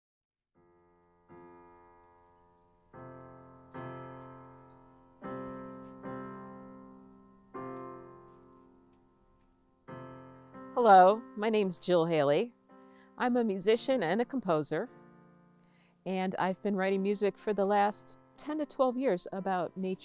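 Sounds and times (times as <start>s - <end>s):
gentle piano chords: 0.6s - 20.0s.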